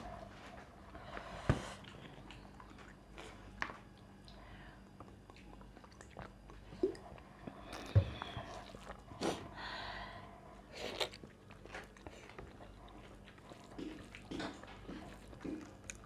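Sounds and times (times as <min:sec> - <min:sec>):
person chewing food: 0:00.0 - 0:09.6, 0:10.2 - 0:16.0.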